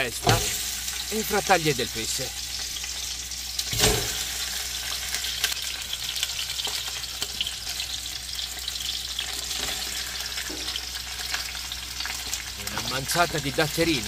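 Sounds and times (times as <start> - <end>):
food sizzling and crackling in pot: 0.0 - 14.0.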